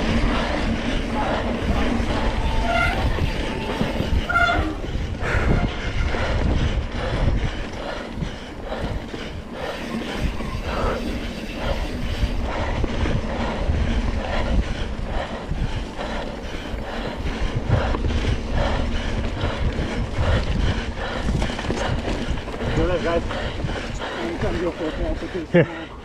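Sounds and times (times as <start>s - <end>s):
wind on microphone: 0.0s - 25.2s
heavy breathing: 0.0s - 26.0s.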